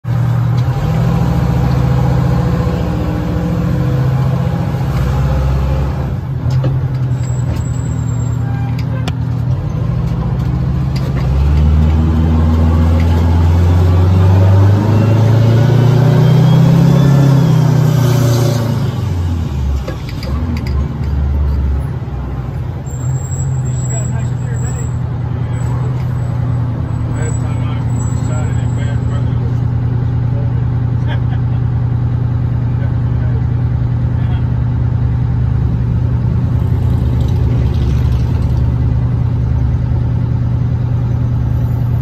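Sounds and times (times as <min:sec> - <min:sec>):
diesel truck engine running: 0:00.0 - 0:42.0.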